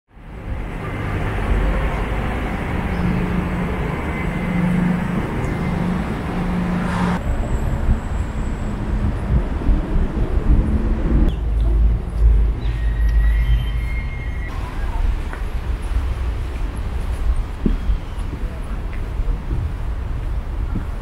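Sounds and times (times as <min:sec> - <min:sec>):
traffic rumble: 0:00.1 - 0:21.0.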